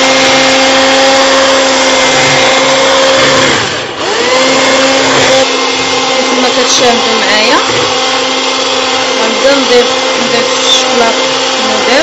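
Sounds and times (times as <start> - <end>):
electric hand mixer whine: 0.0 - 12.0.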